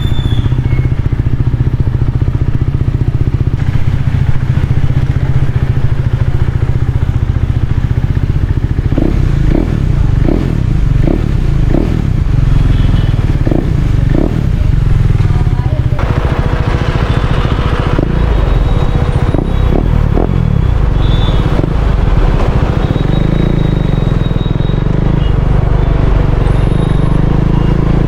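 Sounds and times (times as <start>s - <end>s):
motorcycle engine exhaust note: 0.0s - 28.0s.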